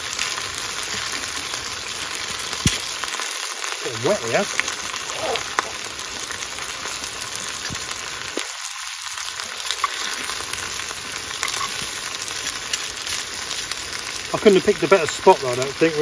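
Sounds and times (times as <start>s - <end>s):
fish sizzling in a hot pan: 0.0s - 16.0s.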